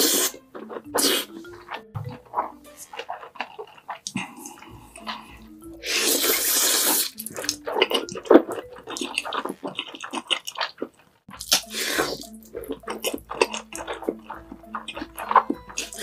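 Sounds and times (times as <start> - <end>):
noodle slurping: 0.0 - 16.0
wet chewing and lip smacks: 0.0 - 16.0.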